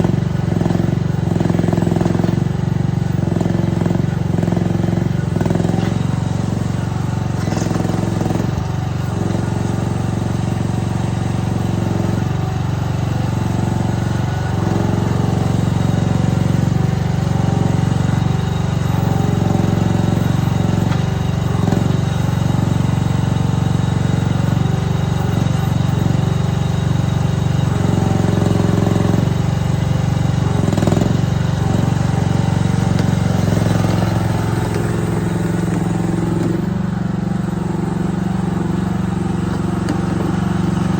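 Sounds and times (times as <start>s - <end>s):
mini excavator engine running: 0.0s - 40.9s.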